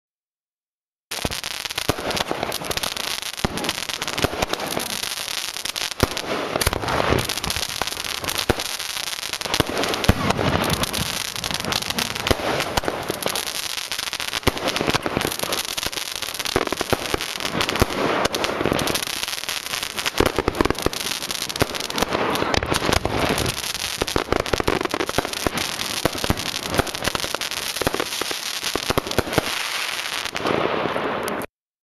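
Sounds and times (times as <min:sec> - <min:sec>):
dense firework crackling: 0:01.1 - 0:31.5
firework shots launching and bursting: 0:01.1 - 0:31.5.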